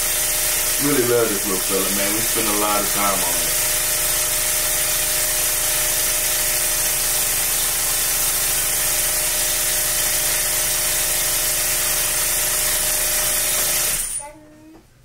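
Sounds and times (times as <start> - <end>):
suction pump motor hum with hiss: 0.0 - 14.2.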